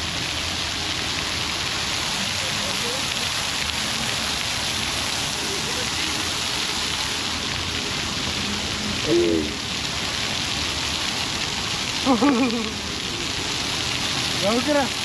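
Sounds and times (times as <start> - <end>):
fountain jets spraying on stone: 0.0 - 15.0.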